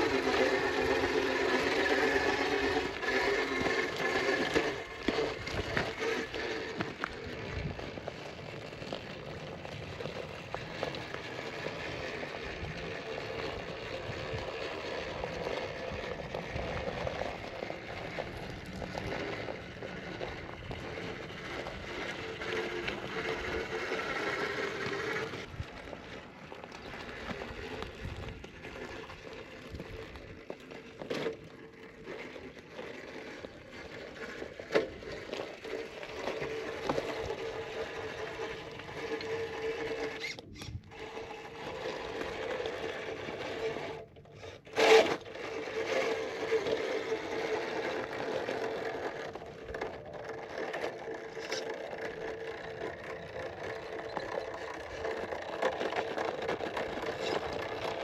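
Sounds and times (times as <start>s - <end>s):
toy car motor whirring: 0.0s - 58.0s
tyres scraping on rock: 0.0s - 58.0s.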